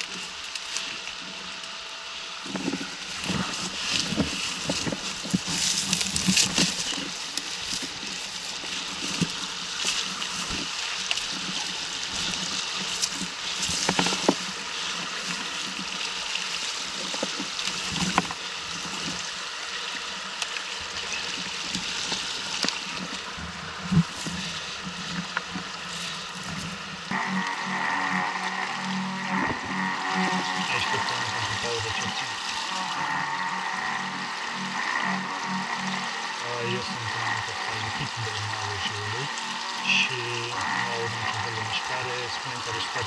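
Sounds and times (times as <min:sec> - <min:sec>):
river rushing over stones: 0:00.0 - 0:43.0.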